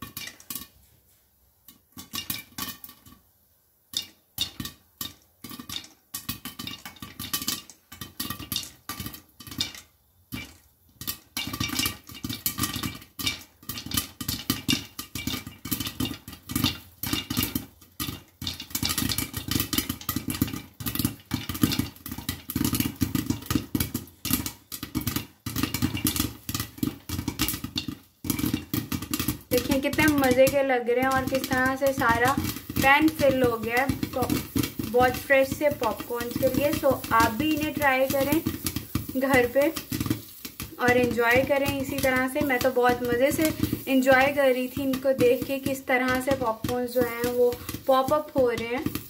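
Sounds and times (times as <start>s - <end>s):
popcorn popping in pan: 0.0s - 49.0s.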